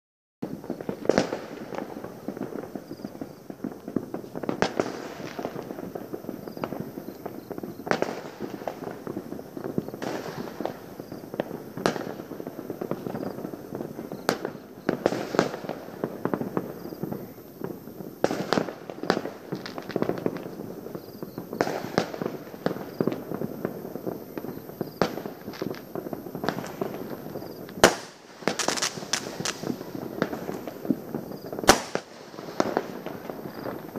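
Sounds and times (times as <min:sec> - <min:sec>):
distant firework bangs: 0:00.4 - 0:33.9
far-off firework bursts: 0:00.4 - 0:33.9.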